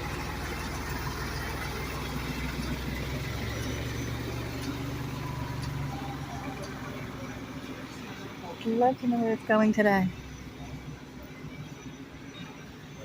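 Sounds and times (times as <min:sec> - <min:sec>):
fire truck engine humming: 0:00.0 - 0:13.0.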